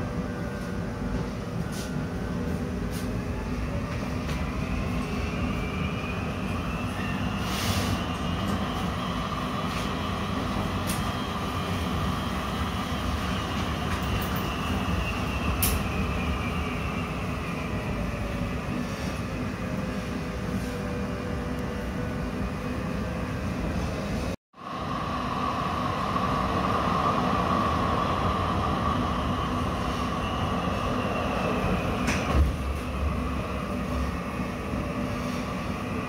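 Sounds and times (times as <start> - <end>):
tram motor whine: 0.0 - 36.0
tram rumbling on rails: 0.0 - 36.0.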